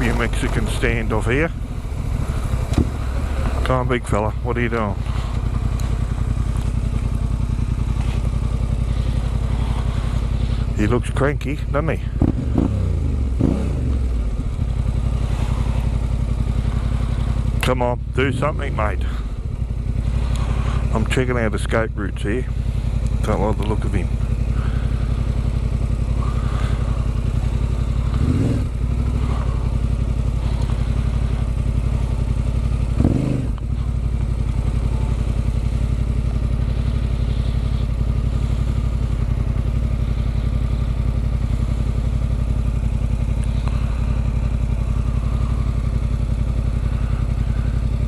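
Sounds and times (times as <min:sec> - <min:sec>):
motorcycle engine idling: 0:00.0 - 0:48.0.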